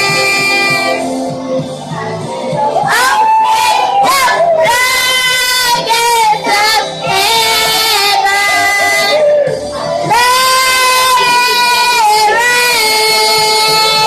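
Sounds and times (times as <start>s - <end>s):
high solo voice singing: 0.0s - 1.2s, 2.8s - 14.0s
soft instrumental backing: 0.0s - 14.0s.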